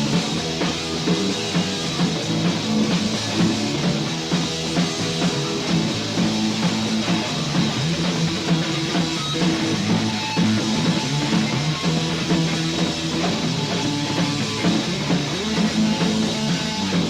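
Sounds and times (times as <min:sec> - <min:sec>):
punk band instrumental: 0:00.0 - 0:17.0.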